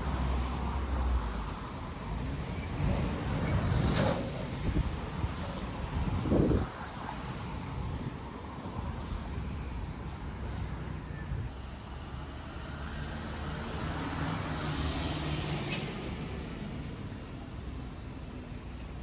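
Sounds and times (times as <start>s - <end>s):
highway traffic rumble: 0.0s - 19.0s.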